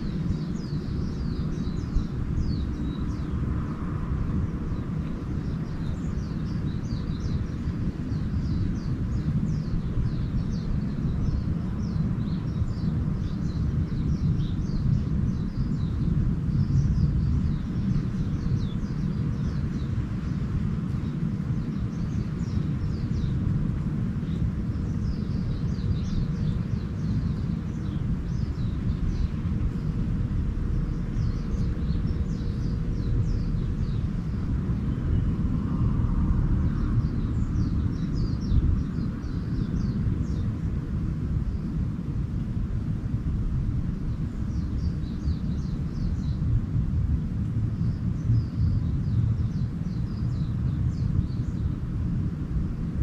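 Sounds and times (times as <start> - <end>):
small birds chirping: 0.0 - 53.0
steady low rumble: 0.0 - 53.0.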